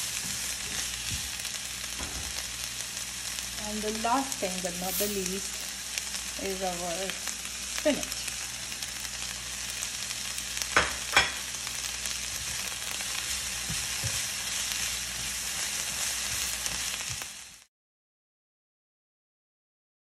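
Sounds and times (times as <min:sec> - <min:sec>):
spatula stirring vegetables: 0:00.0 - 0:06.2, 0:07.7 - 0:17.6
vegetables sizzling in skillet: 0:00.0 - 0:17.7.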